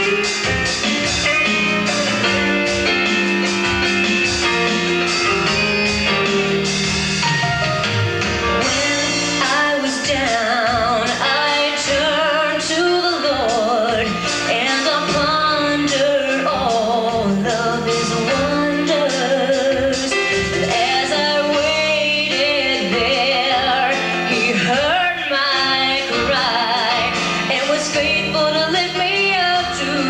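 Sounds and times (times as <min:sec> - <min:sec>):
band with guitar and beat: 0:00.0 - 0:30.0.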